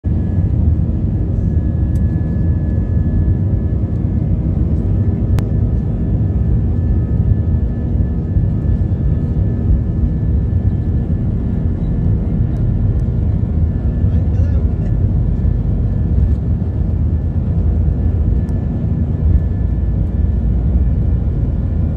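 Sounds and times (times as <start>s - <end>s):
jet engines rumbling in cabin: 0.1s - 21.9s.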